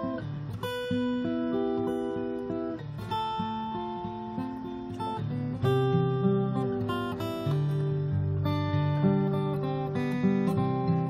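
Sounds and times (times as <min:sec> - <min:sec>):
plucked instrumental music: 0:00.0 - 0:11.0.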